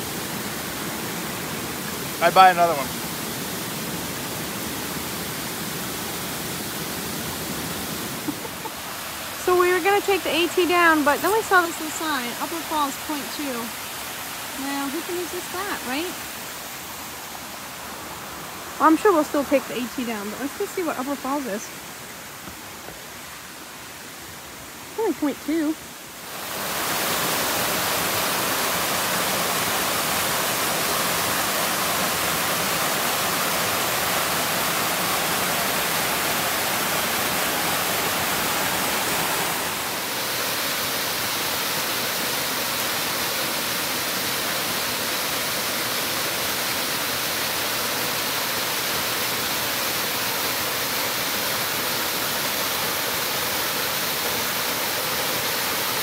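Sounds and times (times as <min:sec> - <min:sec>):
waterfall roar: 0:00.0 - 0:56.0.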